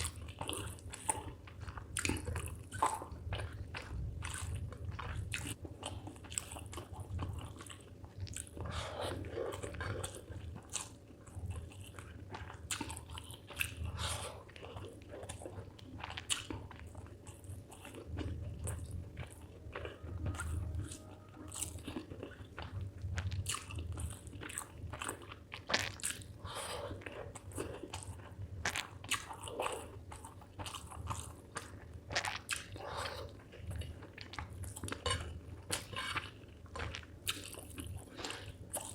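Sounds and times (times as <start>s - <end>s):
close chewing with wet mouth clicks: 0.0s - 38.9s.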